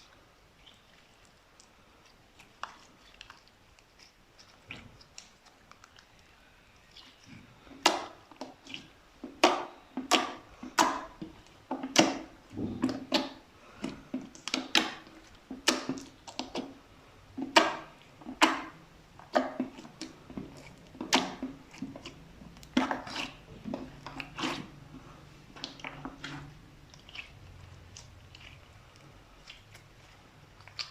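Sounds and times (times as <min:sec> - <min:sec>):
slime squelching and popping: 0:00.0 - 0:30.9.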